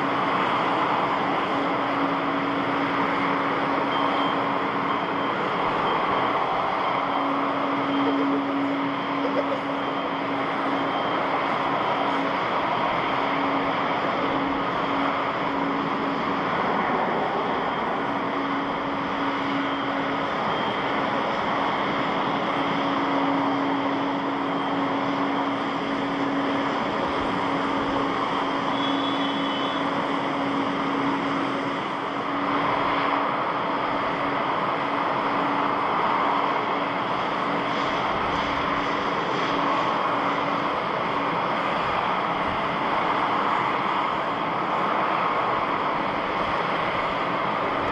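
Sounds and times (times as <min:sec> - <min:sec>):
jet airliner engines running: 0:00.0 - 0:47.9.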